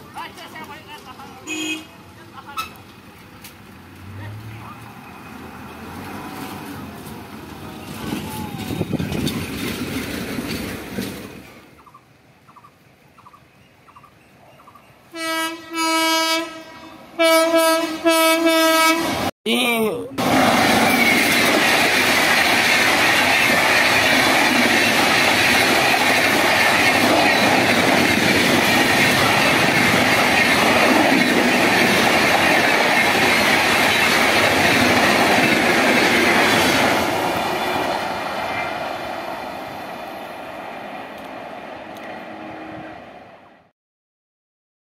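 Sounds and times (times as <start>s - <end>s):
train passing at speed: 0.0s - 19.3s, 20.2s - 43.7s.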